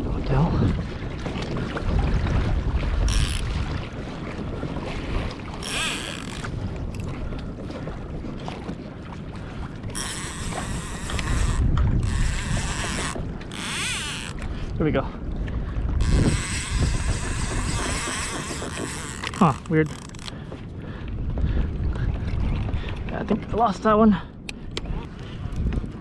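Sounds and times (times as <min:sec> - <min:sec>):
water moving around kayak: 0:00.0 - 0:26.0
wind buffeting microphone: 0:00.0 - 0:26.0.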